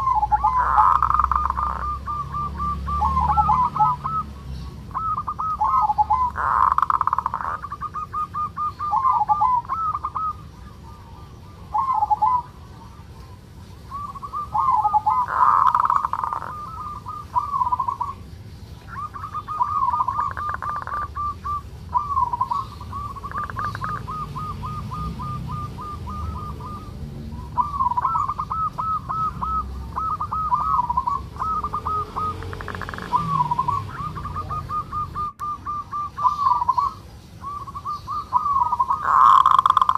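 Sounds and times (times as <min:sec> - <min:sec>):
dove cooing and trilling: 0:00.0 - 0:39.9.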